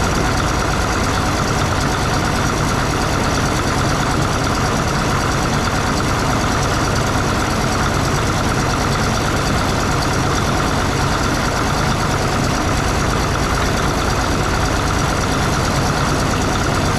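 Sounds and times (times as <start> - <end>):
bulldozer diesel engine idling: 0.0 - 16.9.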